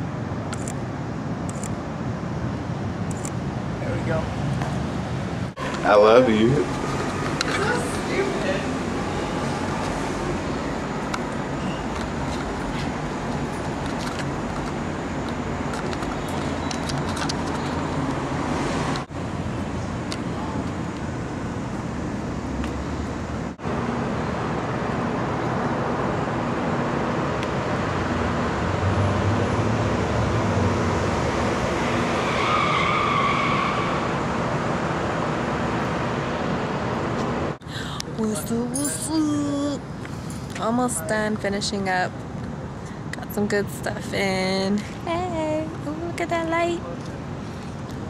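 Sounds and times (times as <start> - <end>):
city traffic noise: 0.0 - 48.0.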